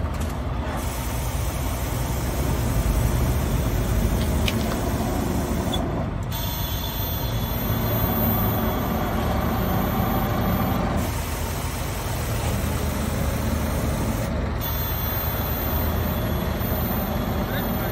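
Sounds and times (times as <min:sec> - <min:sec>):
truck diesel engines idling: 0:00.0 - 0:17.9.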